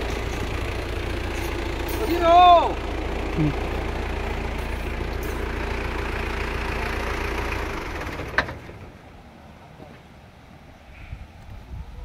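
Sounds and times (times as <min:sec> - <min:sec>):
truck engine idling: 0:00.0 - 0:09.8.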